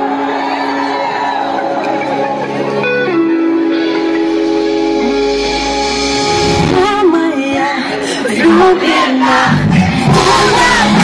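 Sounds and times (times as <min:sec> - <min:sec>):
live pop concert music: 0:00.0 - 0:11.0.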